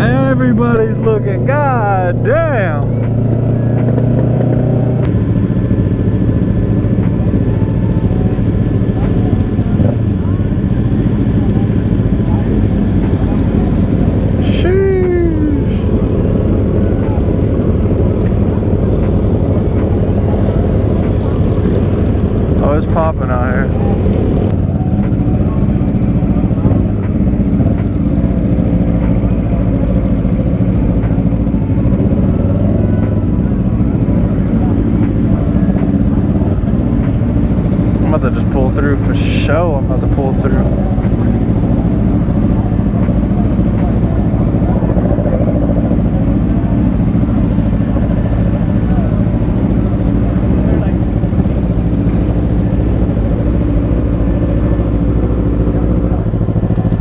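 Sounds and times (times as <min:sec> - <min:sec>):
motorcycle engine running unevenly: 0:00.0 - 0:57.0.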